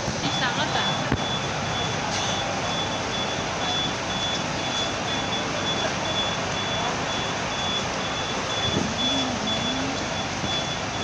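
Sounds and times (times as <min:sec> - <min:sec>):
bus station hubbub: 0:00.0 - 0:11.0
reversing alarm beeping: 0:00.2 - 0:11.0.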